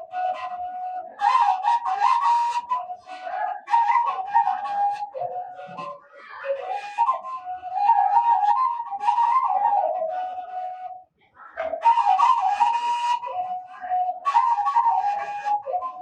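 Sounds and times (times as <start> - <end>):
breathy bamboo flute melody: 0.0 - 16.0.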